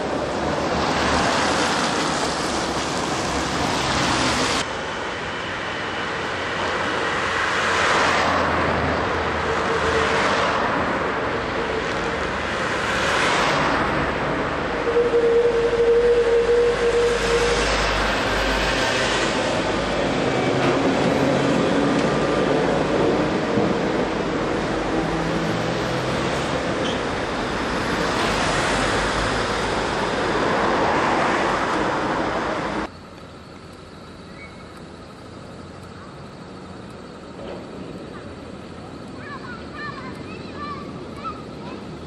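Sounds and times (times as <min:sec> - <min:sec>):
quiet street background: 0:00.0 - 0:42.0
road traffic noise: 0:00.0 - 0:42.0
tram motor hum and wheels on rails: 0:00.0 - 0:42.0.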